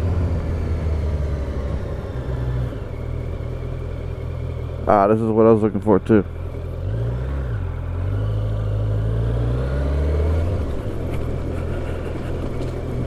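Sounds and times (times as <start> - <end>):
motorcycle engine running: 0.0 - 9.1, 10.4 - 13.0.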